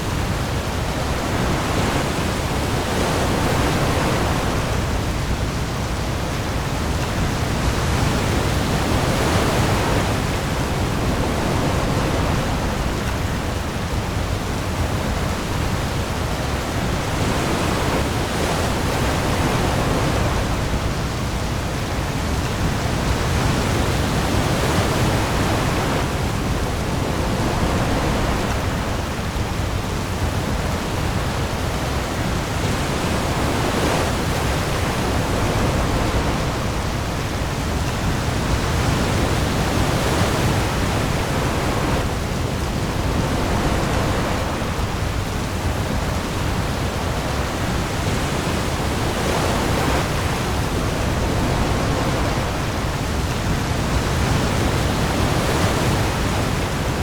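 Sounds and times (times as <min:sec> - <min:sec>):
heavy rain on the sea: 0:00.0 - 0:57.0
waves surging: 0:00.0 - 0:57.0.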